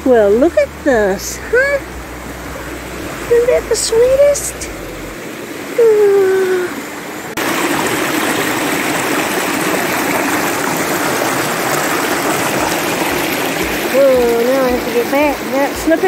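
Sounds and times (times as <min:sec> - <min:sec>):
stream splashing over stones: 0:00.2 - 0:16.0.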